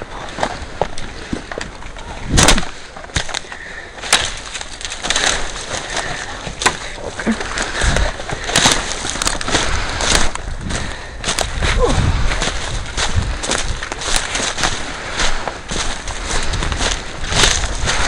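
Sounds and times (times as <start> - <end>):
rustling near microphone: 0.0 - 18.0
footsteps crunching dry leaves: 2.0 - 18.0.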